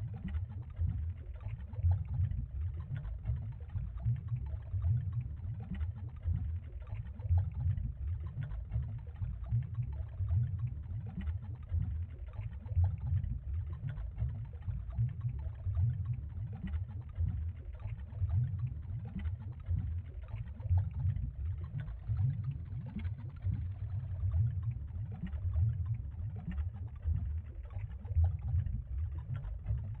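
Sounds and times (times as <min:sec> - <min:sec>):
bubbling water: 0:00.0 - 0:30.0
low underwater rumble: 0:00.0 - 0:30.0.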